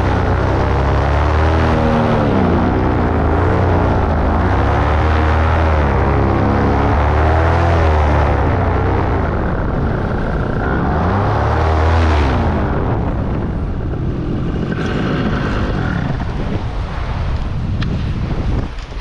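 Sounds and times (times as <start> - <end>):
paramotor engine drone: 0.0 - 18.8
wind noise on microphone: 0.0 - 19.0.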